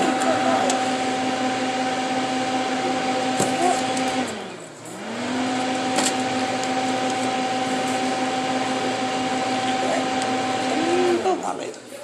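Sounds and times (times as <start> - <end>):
fan motor whining hum: 0.0 - 12.0.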